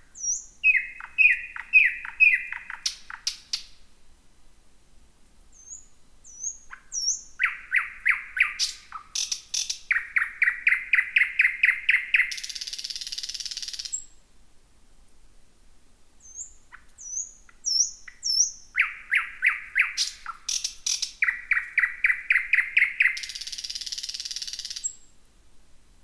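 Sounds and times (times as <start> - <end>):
nightingale singing: 0.0 - 3.8, 5.5 - 14.2, 16.2 - 25.2.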